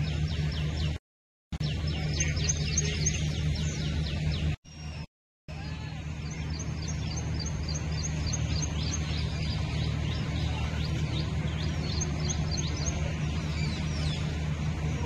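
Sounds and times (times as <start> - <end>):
birds chirping: 0.0 - 1.0, 1.6 - 15.0
steady low hum: 1.6 - 15.0.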